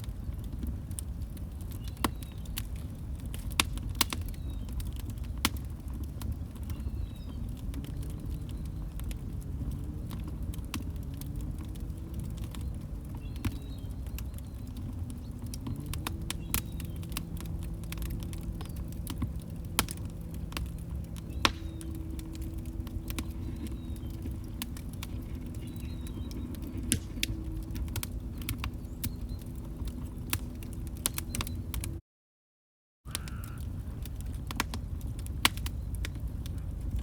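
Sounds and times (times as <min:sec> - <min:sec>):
wood fire crackling: 0:00.0 - 0:32.0, 0:33.1 - 0:37.0.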